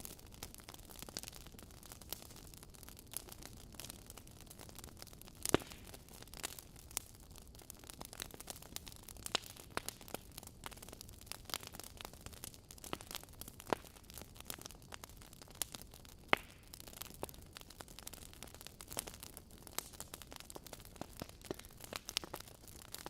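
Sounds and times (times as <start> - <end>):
logs crackling in fireplace: 0.0 - 23.0.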